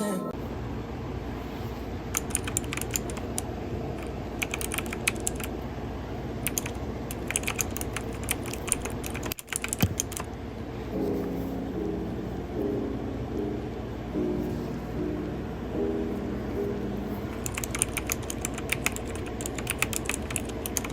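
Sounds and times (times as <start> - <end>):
steady low hiss: 0.4 - 20.9.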